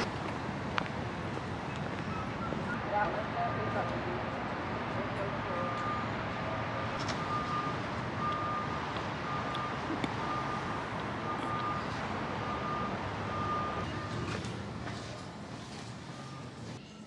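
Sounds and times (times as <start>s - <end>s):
truck reversing alarm beeping: 1.7s - 16.8s.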